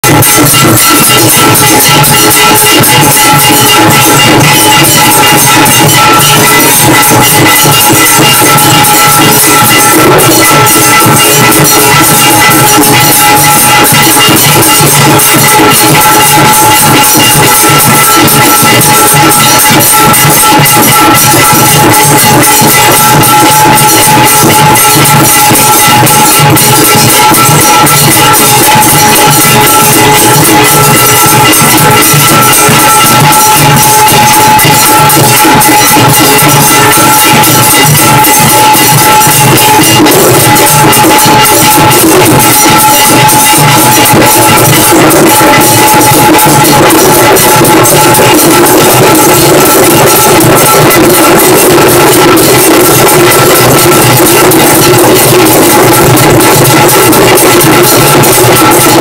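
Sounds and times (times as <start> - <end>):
rapid drum beats: 0.0 - 59.0.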